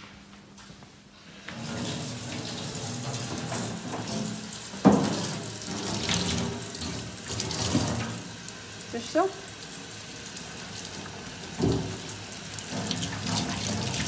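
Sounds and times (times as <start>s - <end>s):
tap water splashing into sink: 1.5s - 14.0s.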